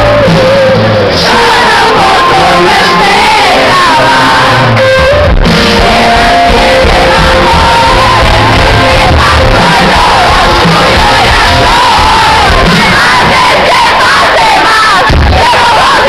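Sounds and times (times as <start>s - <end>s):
crowd shouting and singing along: 0.0s - 16.0s
live pop band: 0.0s - 16.0s
man singing lead: 0.0s - 16.0s.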